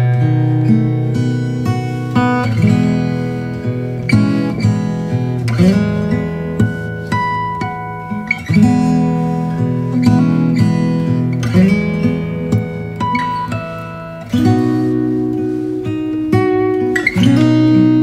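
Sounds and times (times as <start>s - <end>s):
plucked acoustic guitar music: 0.0s - 18.0s.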